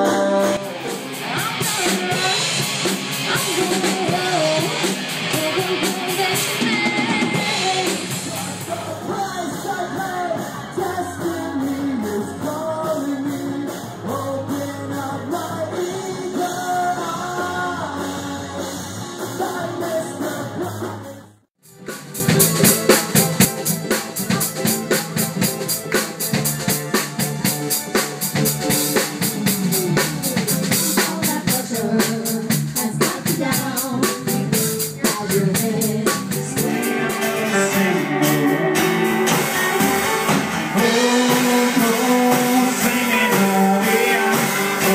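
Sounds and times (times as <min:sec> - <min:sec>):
live band with singing: 0:00.0 - 0:44.9.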